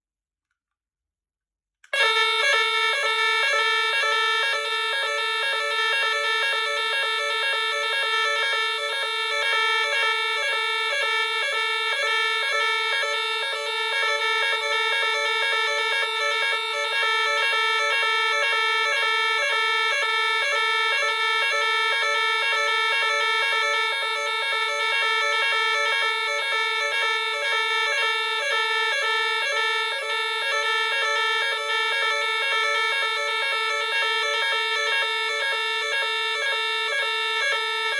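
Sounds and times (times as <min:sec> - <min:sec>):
two-tone fire alarm sounder: 0:01.9 - 0:37.9.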